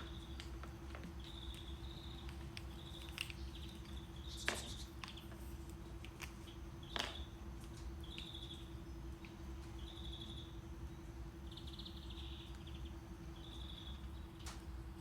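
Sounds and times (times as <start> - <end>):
faint hum: 0.0 - 15.0
low brown noise: 0.0 - 15.0.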